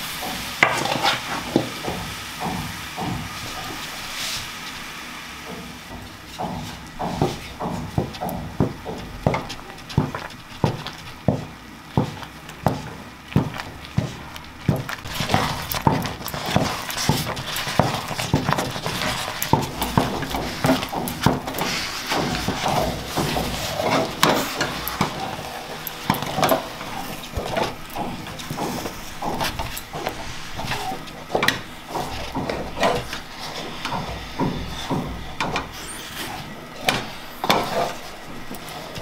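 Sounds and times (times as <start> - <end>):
wooden spatula stirring in metal pot: 0.0 - 4.9, 5.5 - 39.0.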